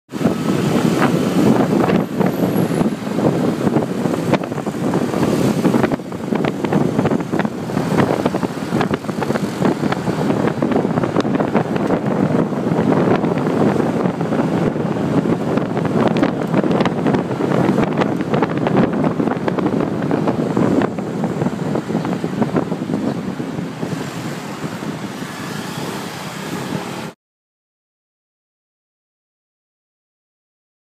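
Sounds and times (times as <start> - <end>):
road noise: 0.1 - 27.2
wind buffeting microphone: 0.1 - 27.2
scooter engine: 0.2 - 27.2.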